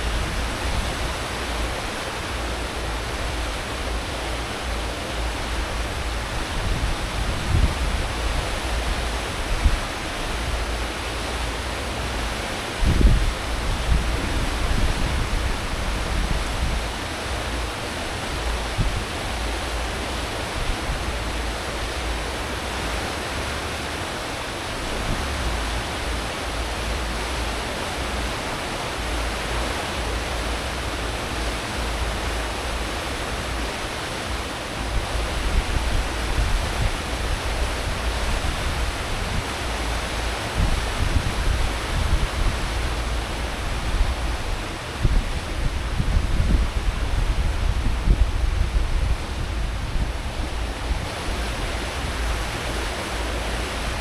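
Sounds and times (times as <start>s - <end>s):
deep engine and propeller rumble: 0.0s - 54.0s
rushing hiss of water: 0.0s - 54.0s.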